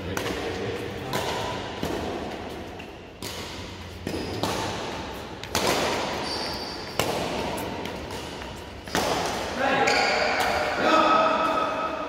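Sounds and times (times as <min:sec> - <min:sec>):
rackets hitting shuttlecock: 0:00.0 - 0:12.0.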